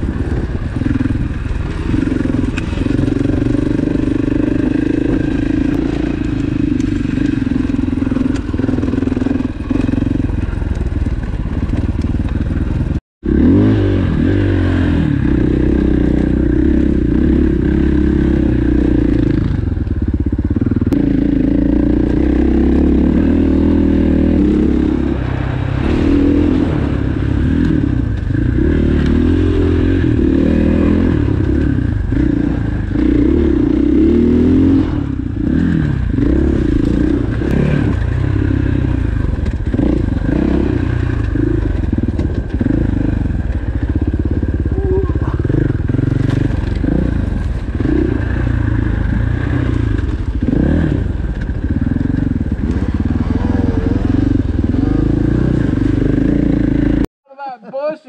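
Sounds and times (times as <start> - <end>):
dirt bike engine revving: 0.0 - 57.1.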